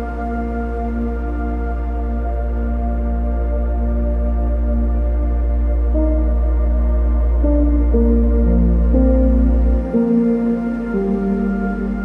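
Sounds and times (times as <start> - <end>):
deep steady drone: 0.0 - 12.0
slow ambient music: 0.0 - 12.0.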